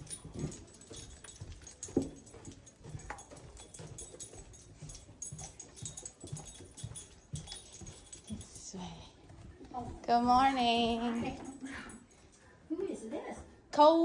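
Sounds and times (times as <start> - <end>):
soft footsteps: 0.0 - 12.4.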